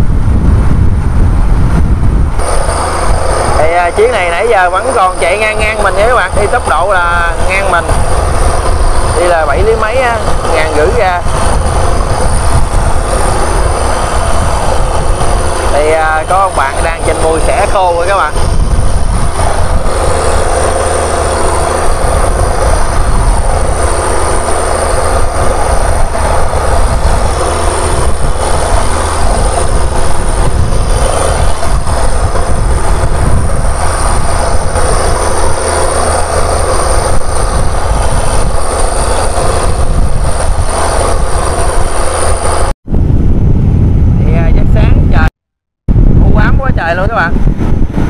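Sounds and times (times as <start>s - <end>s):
boat engine rumbling: 0.0s - 45.3s
water rushing along hull: 2.2s - 42.8s.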